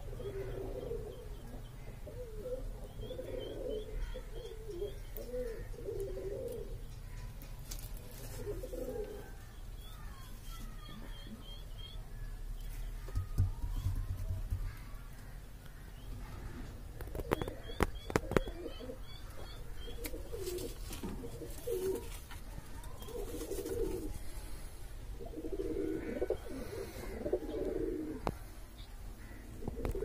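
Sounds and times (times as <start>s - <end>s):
pigeons cooing: 0.0s - 7.0s, 7.7s - 11.9s, 16.1s - 30.0s.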